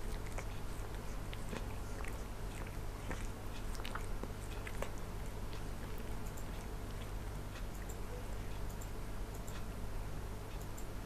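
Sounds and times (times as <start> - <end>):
cat licking and mouth clicks: 0.0 - 9.6
steady low hum: 0.0 - 11.0.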